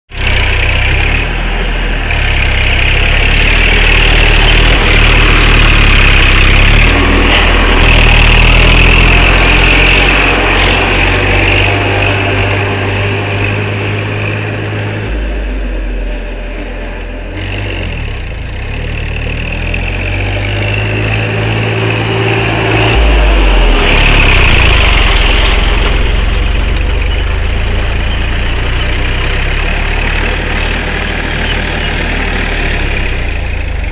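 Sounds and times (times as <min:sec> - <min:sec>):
tractor engine running hard: 0:00.1 - 0:33.9.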